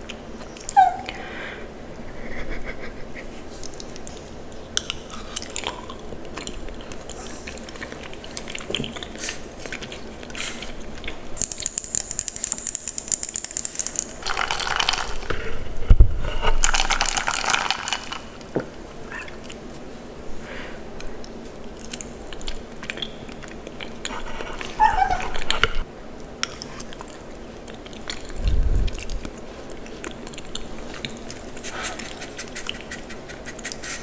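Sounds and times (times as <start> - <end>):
chewing mouth noises: 2.4 - 15.4, 16.4 - 20.0, 20.9 - 34.0.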